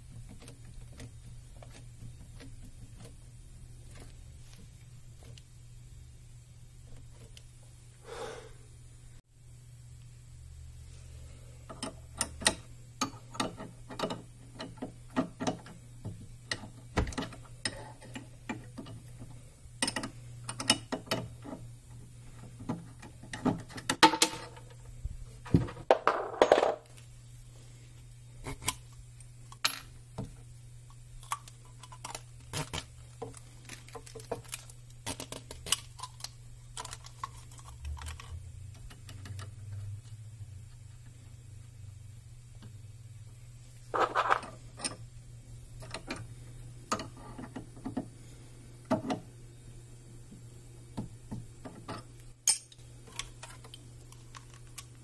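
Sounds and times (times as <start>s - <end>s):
steady low hum: 0.0s - 25.9s, 26.8s - 55.0s.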